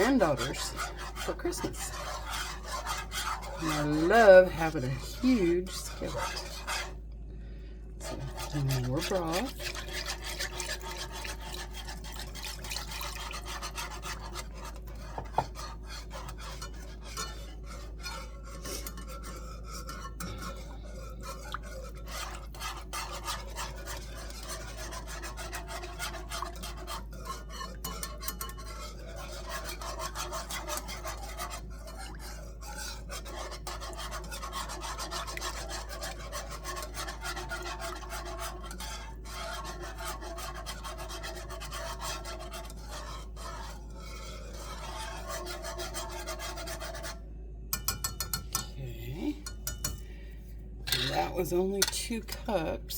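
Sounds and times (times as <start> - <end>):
wire whisk scraping a skillet: 0.0 - 7.0, 8.0 - 52.7.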